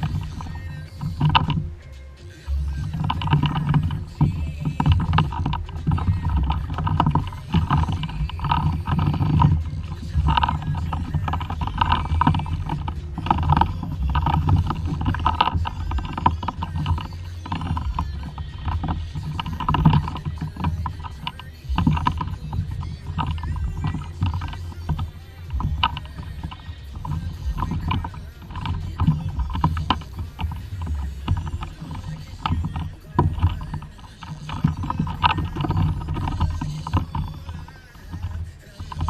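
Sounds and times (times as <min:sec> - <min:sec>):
steady low rumble: 0:00.0 - 0:39.0
water splashing against kayak hull: 0:00.0 - 0:39.0.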